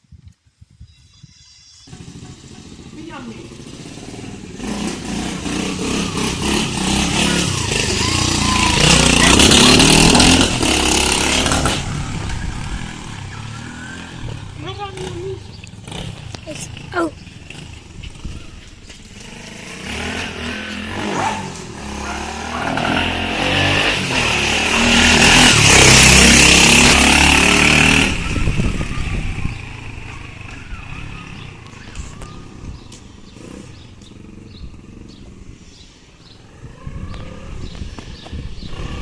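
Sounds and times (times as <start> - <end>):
pit bike engine running: 1.9 - 35.5.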